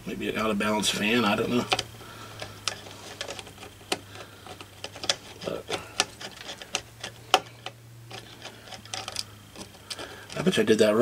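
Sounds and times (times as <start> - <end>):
faint low hum: 0.0 - 11.0
screwdriver turning screws clicking: 1.6 - 10.5.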